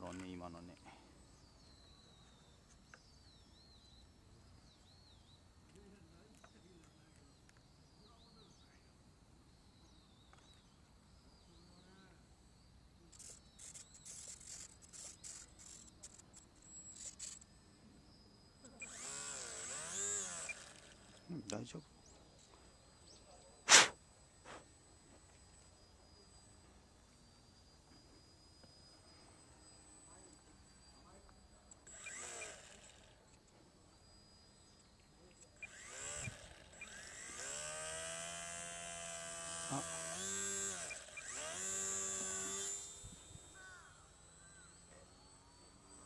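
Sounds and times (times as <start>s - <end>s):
high insect trill: 0.0s - 46.0s
small electric motor whine: 0.0s - 46.0s.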